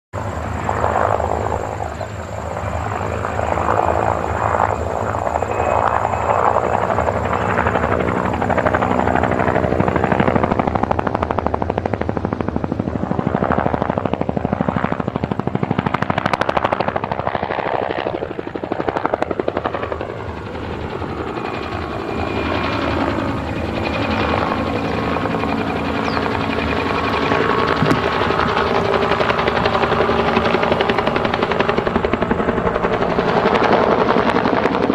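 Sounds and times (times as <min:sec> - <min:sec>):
helicopter engine noise: 0:00.2 - 0:34.9
helicopter rotor blades chopping: 0:00.2 - 0:34.9.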